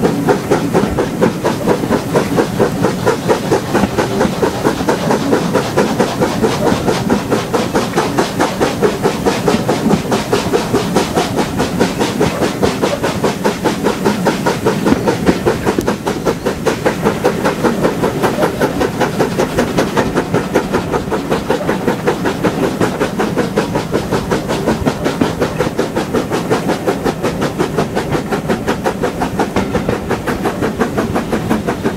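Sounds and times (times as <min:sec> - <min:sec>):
coaches running on rails: 0:00.0 - 0:31.9
steam locomotive exhaust beating: 0:00.0 - 0:31.9.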